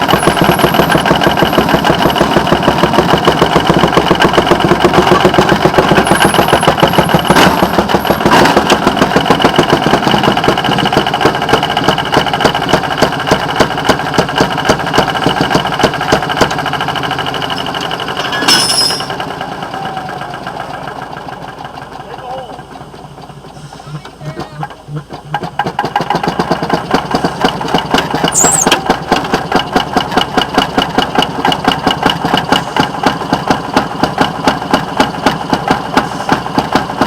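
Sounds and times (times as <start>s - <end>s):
small engine slow firing beat: 0.0s - 18.1s, 19.5s - 37.0s.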